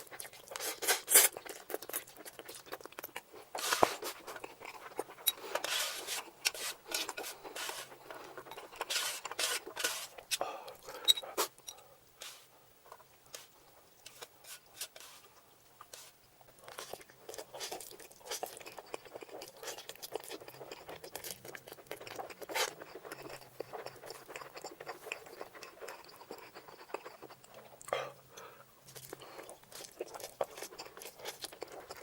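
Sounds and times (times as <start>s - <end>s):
chewing noodles with mouth smacks: 0.0s - 10.8s, 15.8s - 28.0s, 28.8s - 32.0s.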